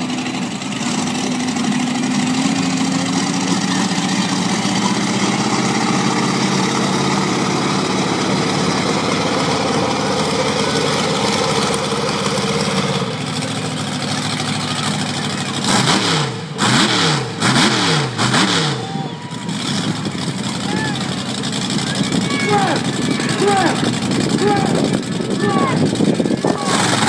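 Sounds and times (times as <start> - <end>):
truck engine running at low revs: 0.0 - 27.0.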